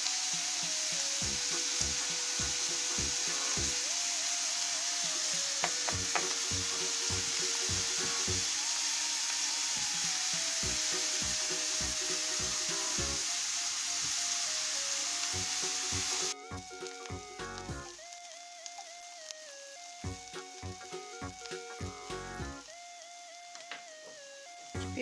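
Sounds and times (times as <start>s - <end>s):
quiet background music: 0.0s - 25.0s
vegetables sizzling in oil: 0.0s - 25.0s.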